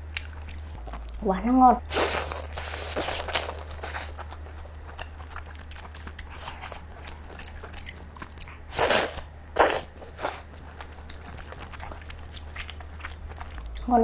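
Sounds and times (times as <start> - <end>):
mouth chewing with wet clicks: 0.0 - 1.2, 1.8 - 14.0
steady low hum: 0.0 - 14.0.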